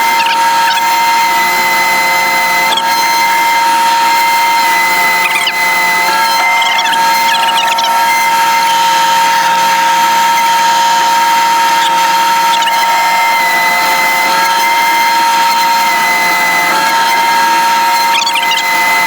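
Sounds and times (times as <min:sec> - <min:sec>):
power tool motor whining: 0:00.0 - 0:19.0.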